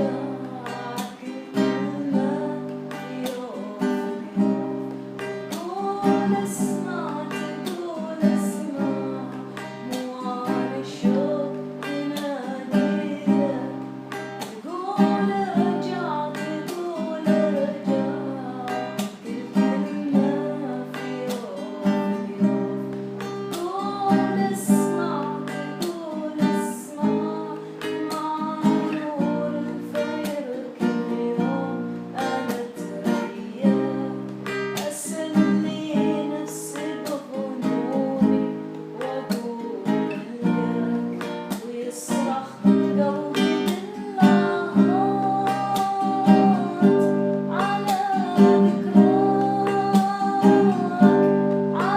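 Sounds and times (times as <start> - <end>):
acoustic guitar strumming: 0.0 - 51.9
person singing: 0.0 - 51.9.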